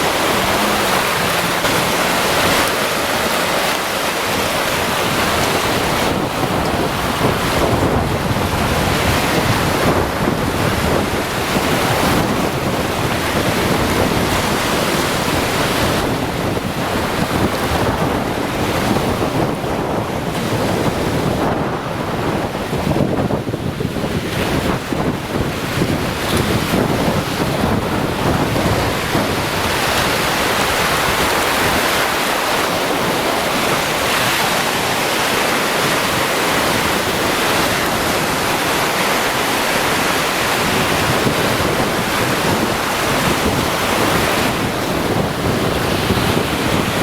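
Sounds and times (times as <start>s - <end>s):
surf washing onto beach: 0.0s - 47.0s
wind buffeting microphone: 0.0s - 47.0s.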